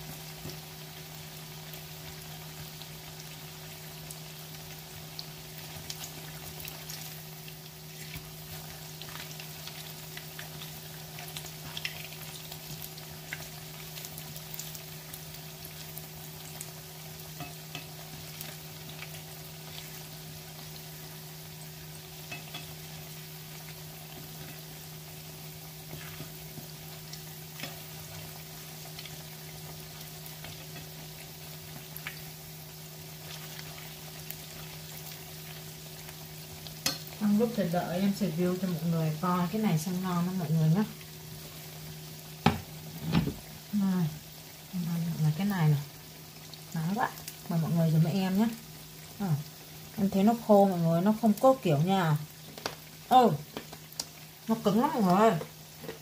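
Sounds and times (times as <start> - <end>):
fritters sizzling in hot oil: 0.0 - 56.0.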